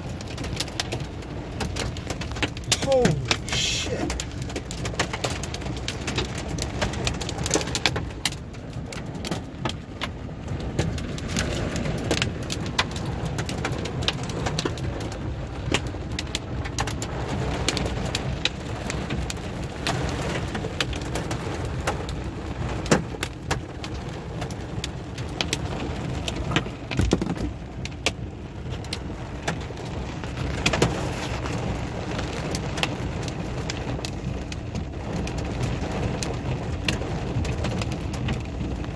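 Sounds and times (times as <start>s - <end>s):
hailstones clattering: 0.0s - 38.9s
heavy rain roar: 0.0s - 38.9s.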